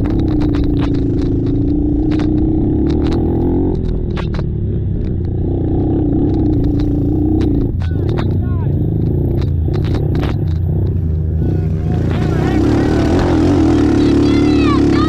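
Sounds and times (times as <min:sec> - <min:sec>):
sharp clicks and knocks: 0:00.0 - 0:13.8
atv engines running hard: 0:00.0 - 0:15.0.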